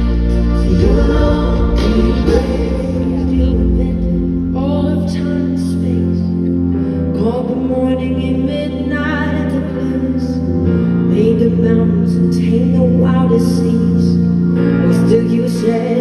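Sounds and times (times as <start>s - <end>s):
live band music over speakers: 0.0s - 16.0s
person singing: 0.0s - 16.0s.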